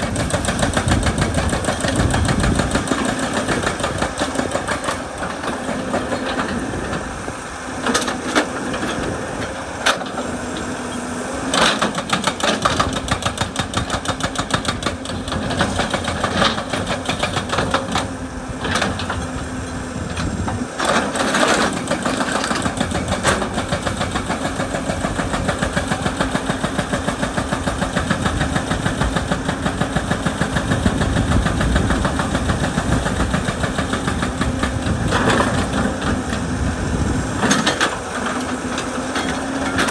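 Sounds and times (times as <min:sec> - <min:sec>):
excavator engine running: 0:00.0 - 0:39.9
hydraulic breaker hammering rock: 0:00.0 - 0:39.9.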